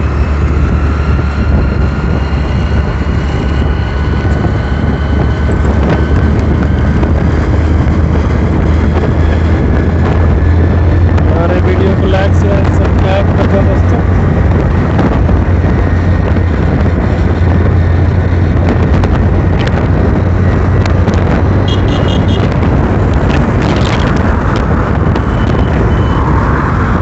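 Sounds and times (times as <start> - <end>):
low hum: 0.0 - 27.0
wind and road noise: 0.0 - 27.0.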